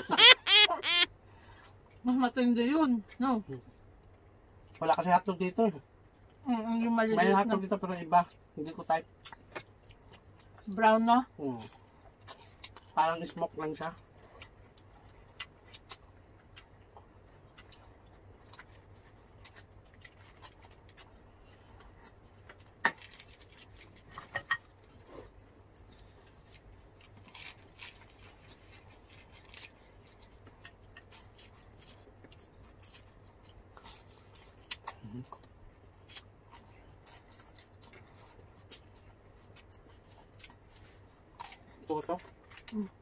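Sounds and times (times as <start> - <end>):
crunching and chewing food: 7.5 - 43.0.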